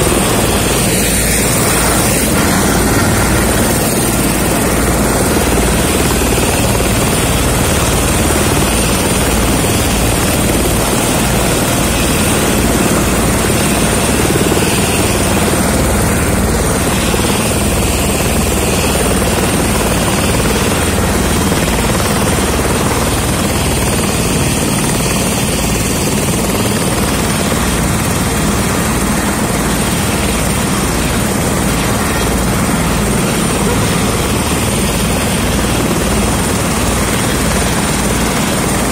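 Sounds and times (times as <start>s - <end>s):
helicopter engine and rotor noise: 0.0s - 38.9s
helicopter turbine whine: 0.0s - 38.9s
rotor blades beating: 0.0s - 38.9s.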